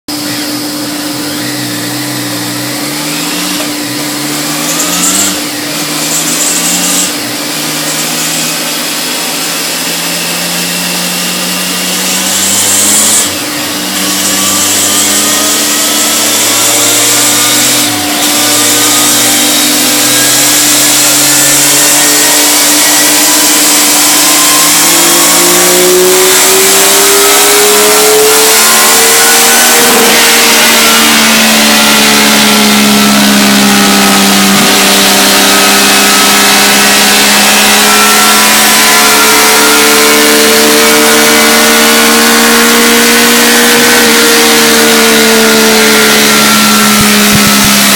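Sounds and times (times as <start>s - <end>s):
motorcycle engine revving: 0.1s - 47.9s.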